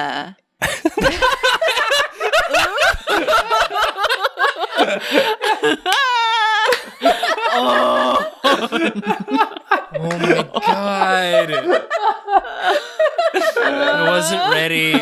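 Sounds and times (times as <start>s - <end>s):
people laughing: 0.6s - 15.0s.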